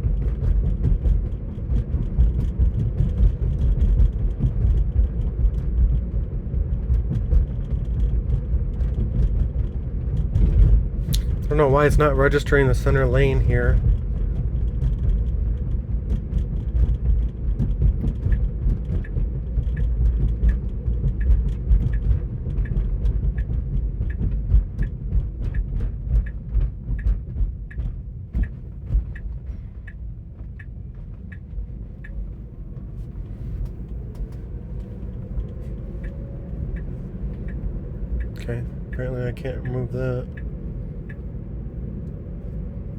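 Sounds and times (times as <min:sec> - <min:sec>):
road and tyre rumble in car: 0:00.0 - 0:42.9
turn signal ticking: 0:00.0 - 0:42.9.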